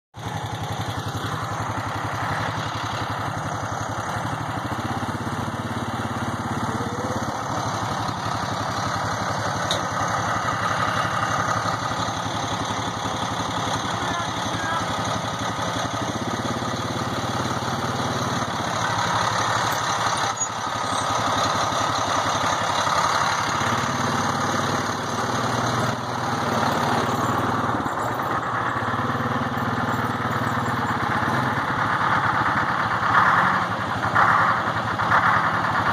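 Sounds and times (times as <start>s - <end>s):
engine running steadily: 0.2s - 35.9s.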